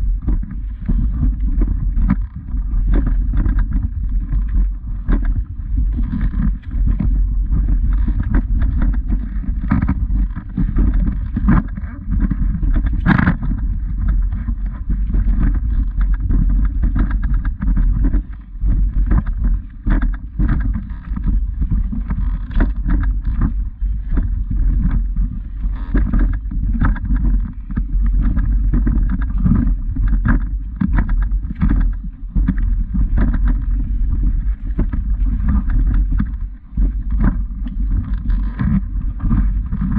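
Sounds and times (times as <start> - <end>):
camera handling rumble: 0.0 - 39.9.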